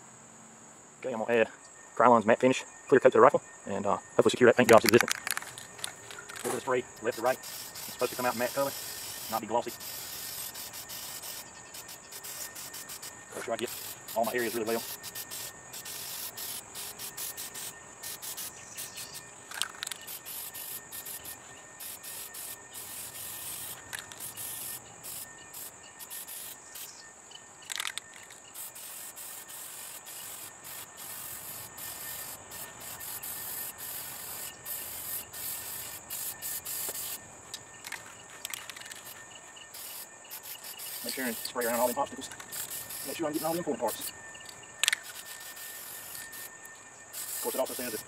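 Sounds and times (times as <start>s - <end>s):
high-pitched insect buzz: 0.0s - 48.0s
aerosol can spraying: 6.3s - 26.9s, 27.7s - 37.2s, 37.8s - 44.2s, 44.8s - 46.5s, 47.1s - 48.0s.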